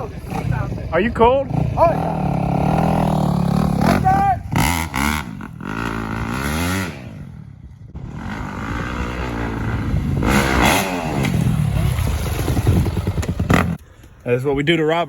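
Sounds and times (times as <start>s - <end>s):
dirt bike engine revving: 0.0s - 13.8s.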